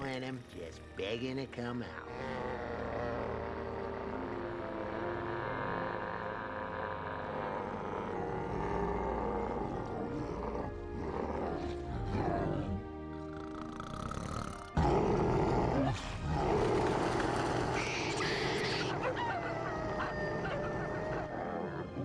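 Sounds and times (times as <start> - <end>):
background music: 0.0 - 22.0
deep cartoon snoring: 1.9 - 19.7.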